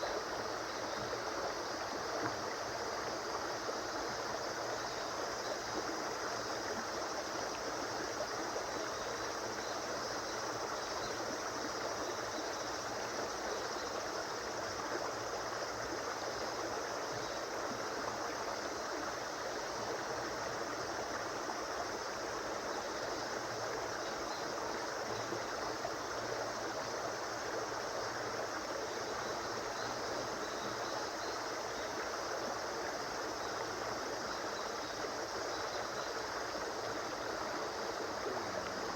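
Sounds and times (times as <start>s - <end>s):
stream water rushing and gurgling: 0.0s - 38.9s.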